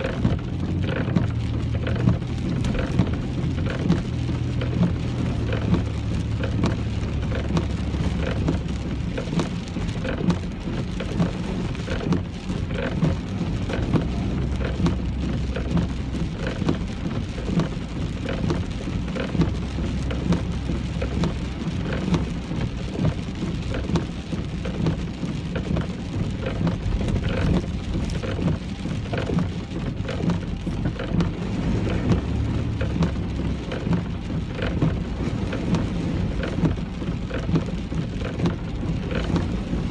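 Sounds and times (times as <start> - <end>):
car and tyres rumbling on wet road: 0.0 - 39.9
rain pattering on a car: 0.0 - 39.9.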